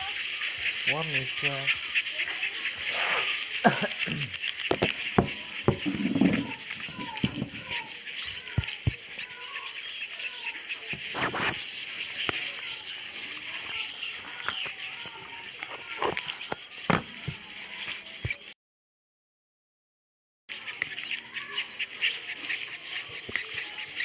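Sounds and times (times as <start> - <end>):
birds twittering: 0.0 - 18.6, 20.5 - 24.0.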